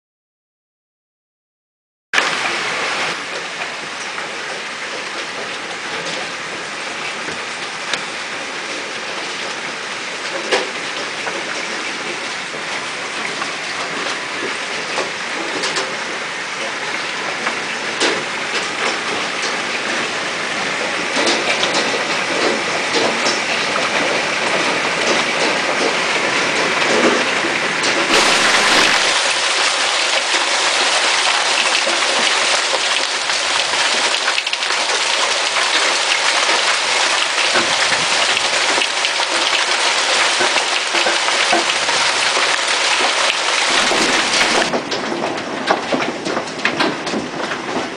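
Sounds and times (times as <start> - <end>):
hailstones clattering on house: 2.2 - 47.9.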